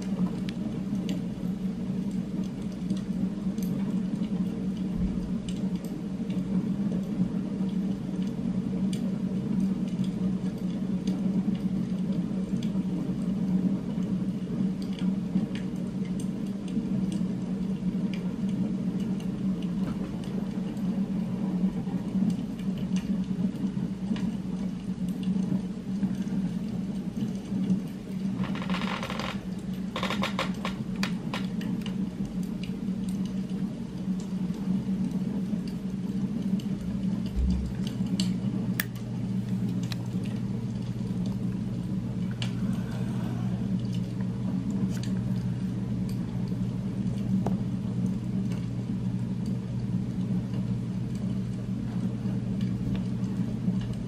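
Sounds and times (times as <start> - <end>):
low droning hum: 0.0 - 54.0.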